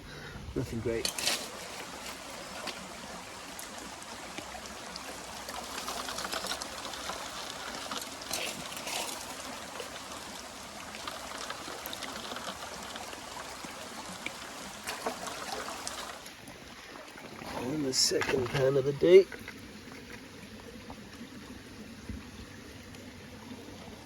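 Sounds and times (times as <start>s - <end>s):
running water: 0.6s - 24.0s.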